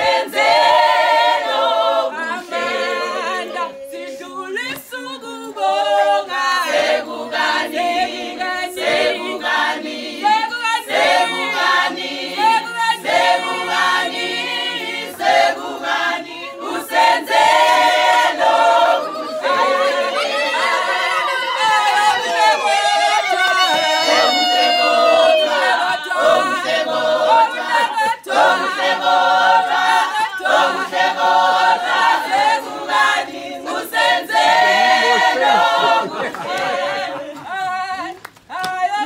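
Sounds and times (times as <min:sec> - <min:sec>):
women singing a cappella: 0:00.0 - 0:39.0.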